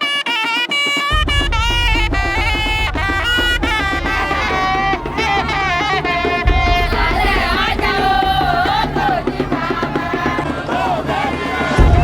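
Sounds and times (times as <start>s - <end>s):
percussion: 0.0s - 12.0s
wavering melismatic singing: 1.0s - 12.0s.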